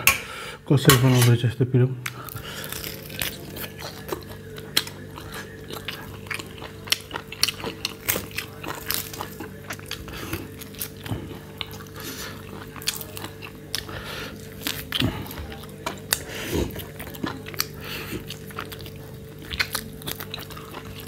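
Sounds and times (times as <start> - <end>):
faint steady hum: 0.0 - 21.0
chewing and biting meat: 2.1 - 21.0.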